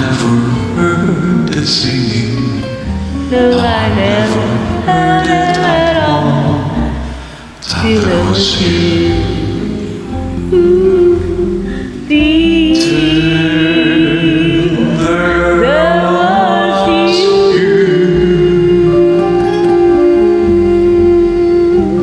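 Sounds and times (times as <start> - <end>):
backing track: 0.0 - 22.0
sliding melodic line: 0.3 - 22.0
person singing long vibrato notes: 3.3 - 22.0.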